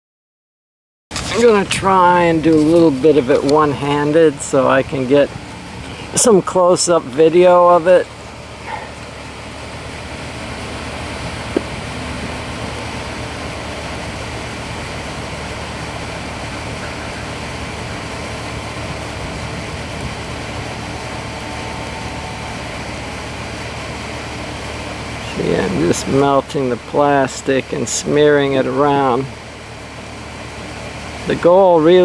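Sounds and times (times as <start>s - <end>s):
low mechanical hum: 1.1s - 32.0s.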